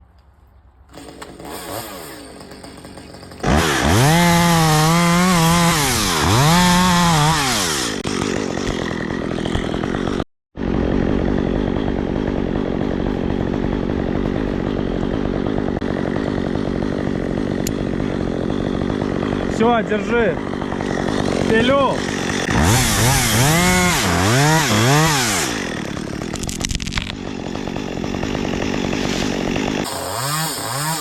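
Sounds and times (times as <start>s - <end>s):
chainsaw revving and running: 0.9s - 31.0s.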